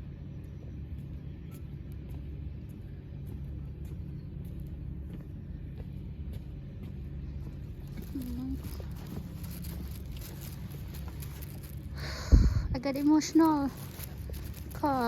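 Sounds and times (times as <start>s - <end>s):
faint steady hum: 0.0s - 15.0s
low mechanical rumble: 0.0s - 15.0s.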